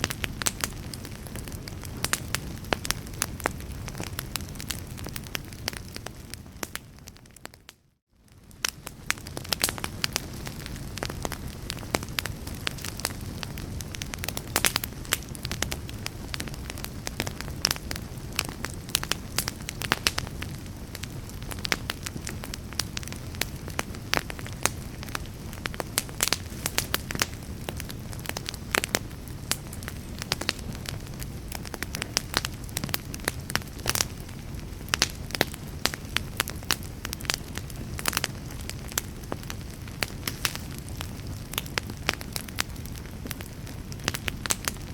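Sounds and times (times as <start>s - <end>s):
sharp pops and snaps of fire: 0.0s - 44.9s
wood fire crackling: 0.0s - 44.9s.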